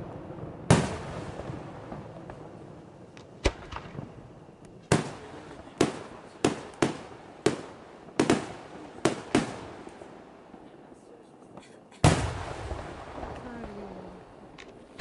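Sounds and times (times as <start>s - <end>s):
firework bangs echoing: 0.0s - 10.7s, 11.5s - 14.6s.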